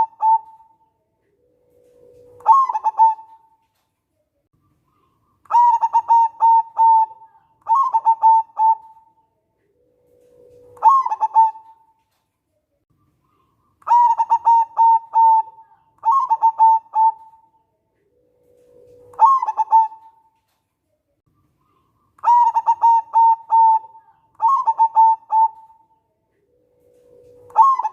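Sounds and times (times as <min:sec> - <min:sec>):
dove cooing: 0:00.0 - 0:03.6, 0:05.0 - 0:12.0, 0:13.4 - 0:20.4, 0:21.7 - 0:27.9.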